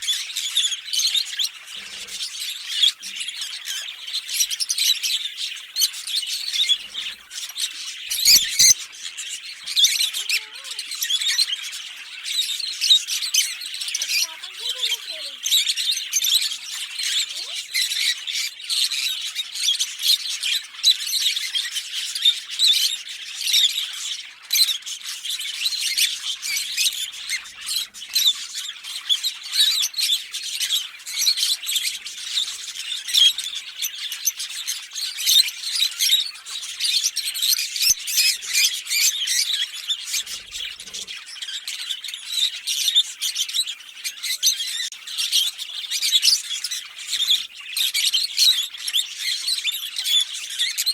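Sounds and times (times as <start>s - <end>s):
lovebirds chirping: 0.0s - 50.9s.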